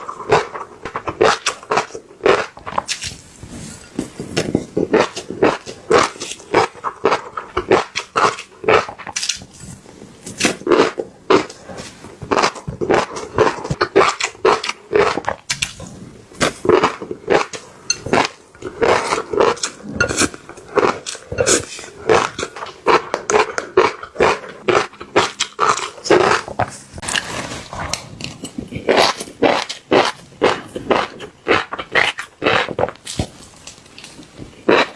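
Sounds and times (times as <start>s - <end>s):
crunchy chewing: 0.0s - 34.9s.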